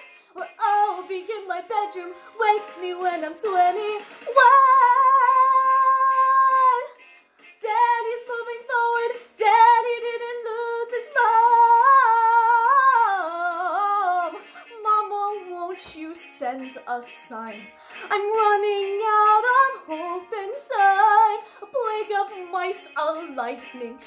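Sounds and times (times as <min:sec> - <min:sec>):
woman singing: 0:00.0 - 0:07.0, 0:07.6 - 0:24.0.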